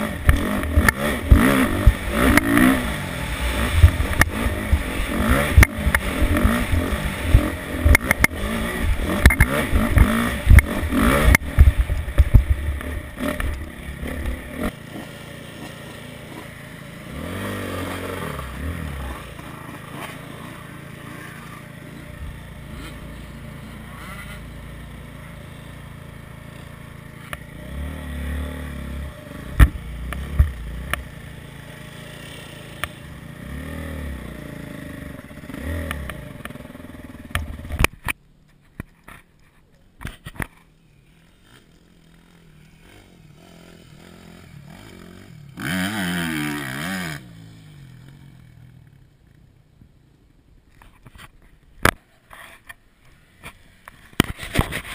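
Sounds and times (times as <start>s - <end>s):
dirt bike engine revving: 0.0s - 37.9s, 40.9s - 49.1s
other dirt bikes revving: 0.0s - 37.9s, 41.0s - 49.0s
dirt bike idling: 0.0s - 38.5s, 40.5s - 50.3s.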